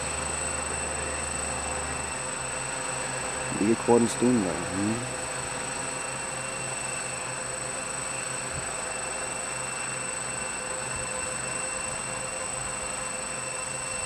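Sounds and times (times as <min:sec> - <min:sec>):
quadcopter motors humming: 0:00.2 - 0:12.2.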